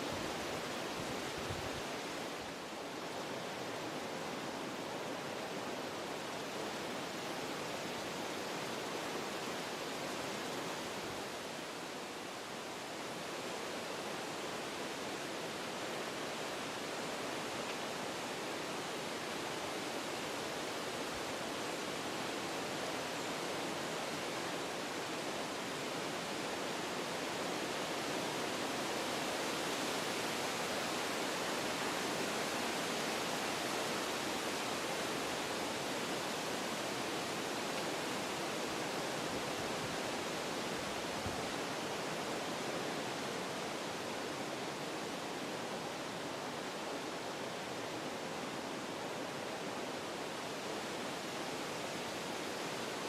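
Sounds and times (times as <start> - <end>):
wind blowing through trees: 0.0 - 53.0.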